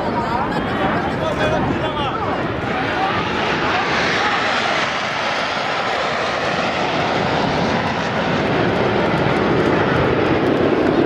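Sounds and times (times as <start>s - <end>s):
jet aircraft flying past: 0.0s - 11.0s.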